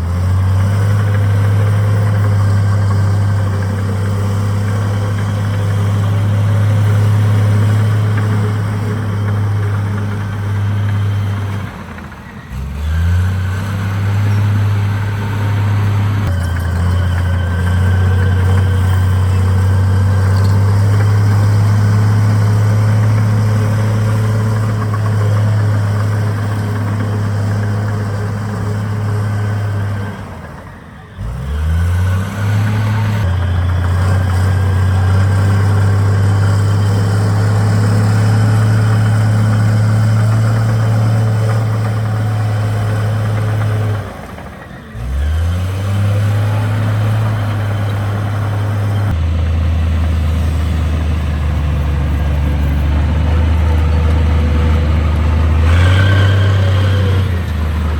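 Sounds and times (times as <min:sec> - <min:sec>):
heavy diesel engine under load: 0:00.0 - 0:57.9.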